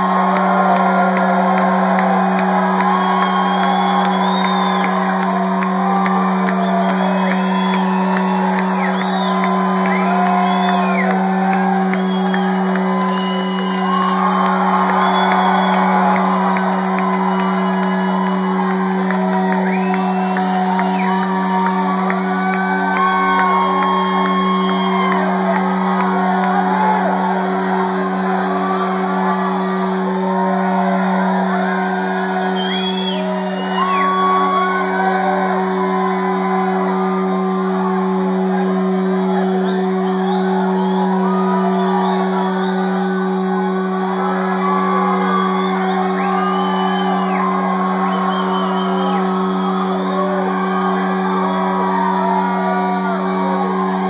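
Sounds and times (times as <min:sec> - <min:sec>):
crowd cheering and whooping: 0:00.0 - 0:54.0
low droning tone: 0:00.0 - 0:54.0.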